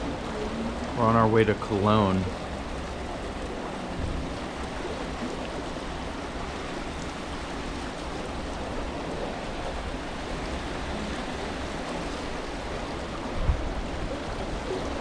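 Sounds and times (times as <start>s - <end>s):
ship rushing through water: 0.0s - 15.0s.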